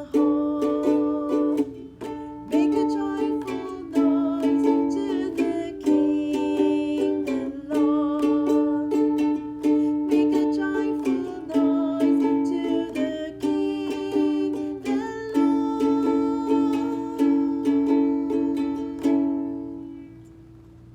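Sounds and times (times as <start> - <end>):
strummed string instrument chords: 0.0 - 20.1.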